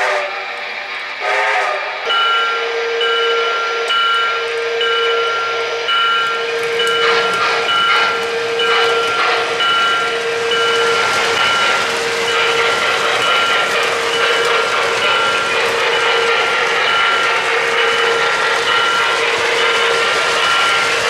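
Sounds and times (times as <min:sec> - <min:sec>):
model train whistle toot: 0:00.0 - 0:00.5, 0:01.2 - 0:21.0
locomotive chuffing: 0:00.0 - 0:21.0
steam hiss with repeating tone: 0:00.0 - 0:21.0.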